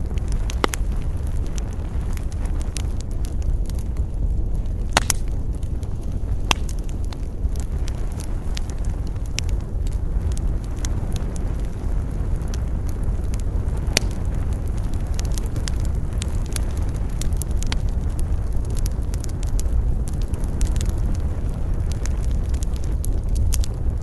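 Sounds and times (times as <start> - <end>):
campfire crackling and popping: 0.0 - 24.0
low rush of wind: 0.0 - 24.0.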